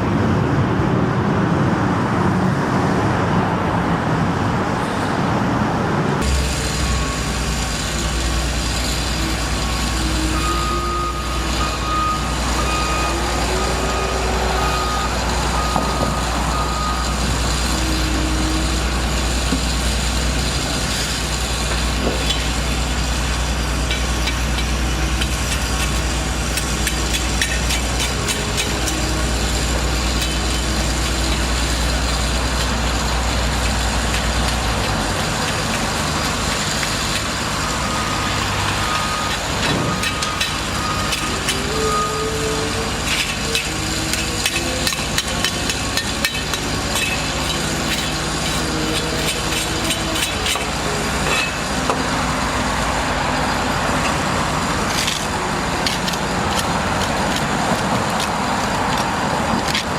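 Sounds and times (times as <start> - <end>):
deep engine drone: 0.0 - 59.9
heavy engine noise: 0.0 - 59.9
road traffic: 0.0 - 59.9.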